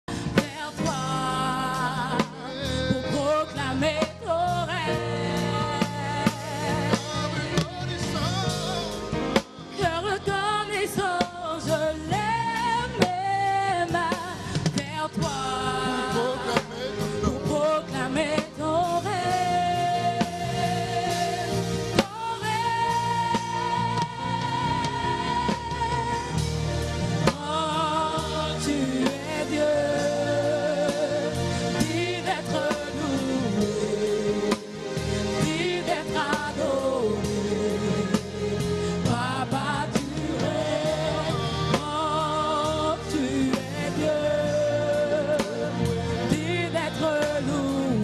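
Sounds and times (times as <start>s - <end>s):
instrumental backing with beat: 0.1s - 48.0s
lead vocal singing runs: 0.1s - 48.0s
choir singing: 0.4s - 14.4s, 15.0s - 48.0s.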